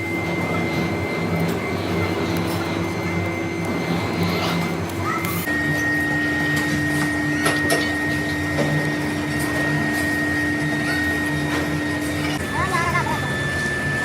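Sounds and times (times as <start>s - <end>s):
machine tool whining: 0.0s - 14.0s.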